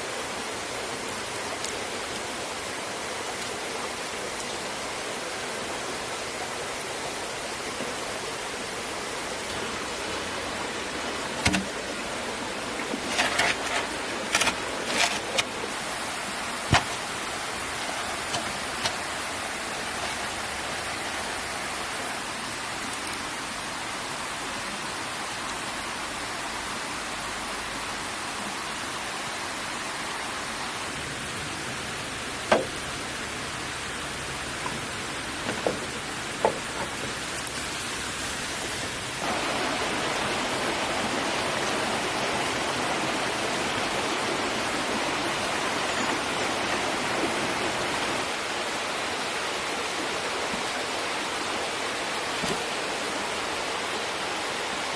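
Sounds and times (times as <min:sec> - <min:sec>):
water rushing: 0:00.0 - 0:54.9.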